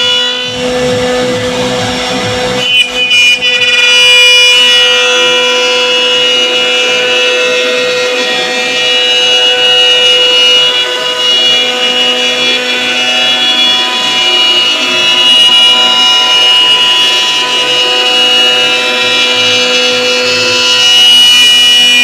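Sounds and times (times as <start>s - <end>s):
router spindle whining: 0.0s - 22.0s.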